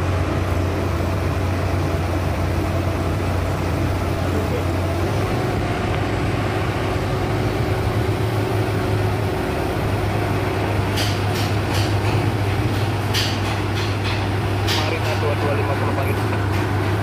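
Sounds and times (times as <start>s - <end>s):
heavy machinery droning: 0.0s - 17.0s.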